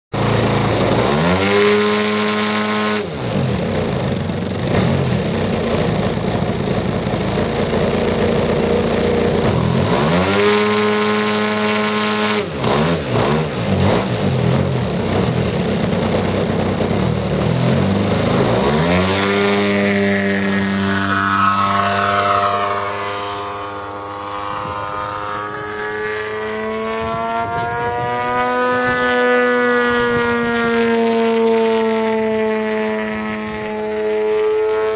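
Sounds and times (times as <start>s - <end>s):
model plane engine revving: 0.2s - 34.9s.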